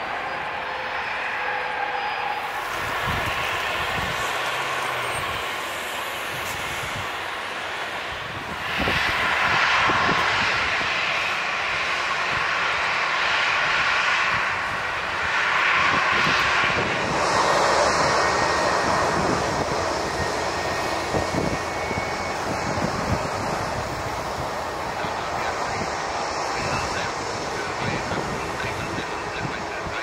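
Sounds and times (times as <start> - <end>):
jet engines taxiing: 0.0 - 30.0.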